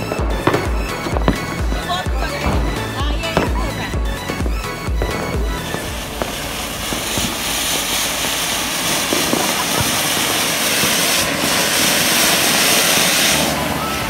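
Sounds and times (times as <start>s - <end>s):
firework fountain hissing: 0.0s - 14.0s.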